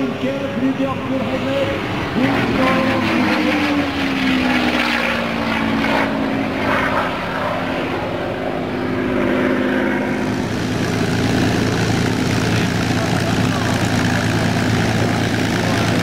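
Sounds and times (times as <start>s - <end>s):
plane engine droning on ground: 0.0s - 16.0s
propeller plane flying past: 0.0s - 16.0s.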